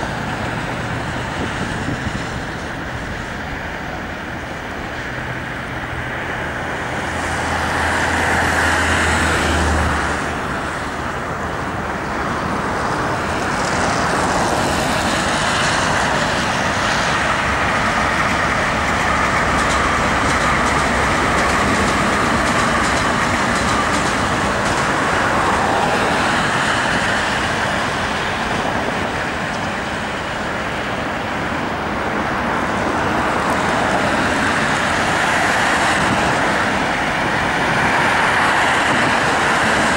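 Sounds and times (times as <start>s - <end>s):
passing vehicle engine hum: 0.0s - 39.9s
road traffic: 0.0s - 39.9s.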